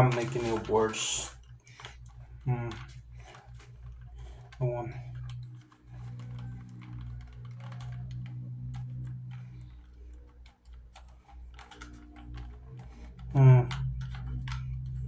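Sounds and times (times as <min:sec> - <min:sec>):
plastic puzzle cube clicking: 0:00.0 - 0:15.0
steady low hum: 0:00.0 - 0:15.0.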